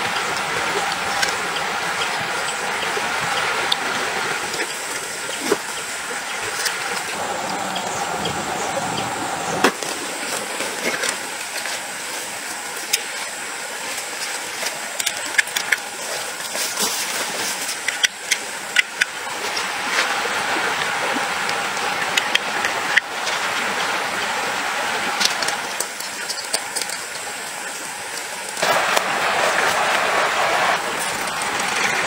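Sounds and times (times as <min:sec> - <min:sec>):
outdoor background hiss: 0:00.0 - 0:32.0.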